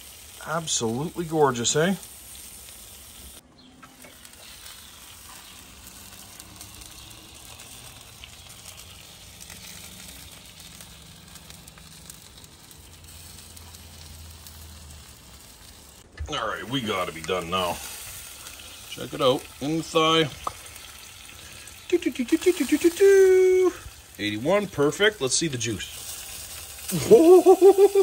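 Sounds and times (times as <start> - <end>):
chicken sizzling on a grill: 0.0 - 28.0
juices crackling on coals: 0.0 - 28.0.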